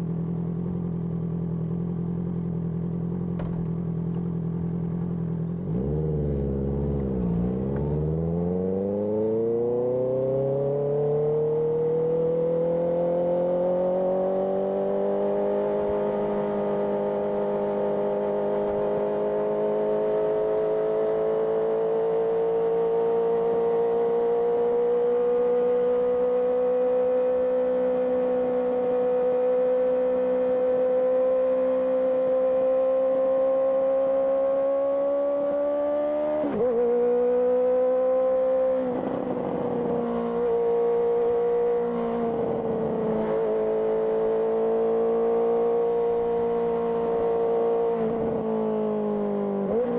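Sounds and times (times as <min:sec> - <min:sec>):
motorcycle engine revving: 0:03.1 - 0:49.9.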